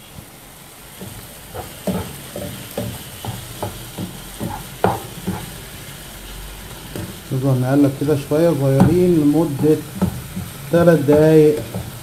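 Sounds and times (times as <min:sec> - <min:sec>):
food sizzling: 0:00.0 - 0:12.0
spatula scraping frying pan: 0:00.0 - 0:12.0.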